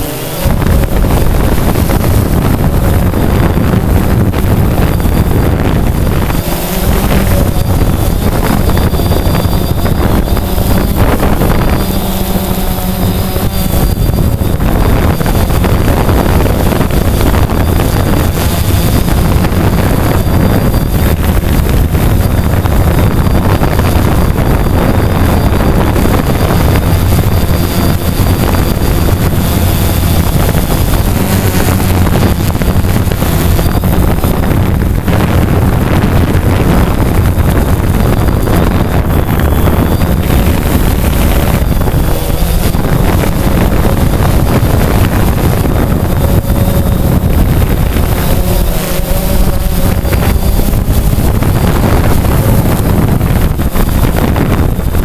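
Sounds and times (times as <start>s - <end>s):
drone propellers buzzing: 0.0s - 55.0s
high motor whine: 0.0s - 55.0s
wind buffeting microphone: 0.0s - 55.0s.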